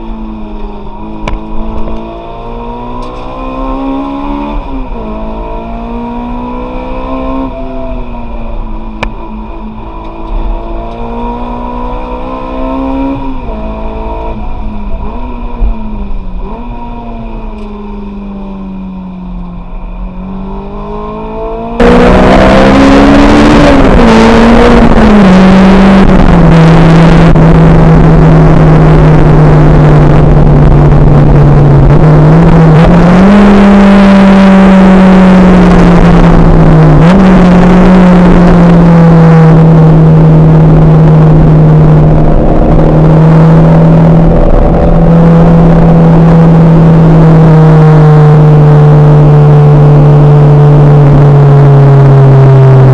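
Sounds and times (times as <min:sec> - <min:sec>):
car engine at high revs: 0:00.0 - 0:52.9
road and wind noise: 0:00.0 - 0:52.9.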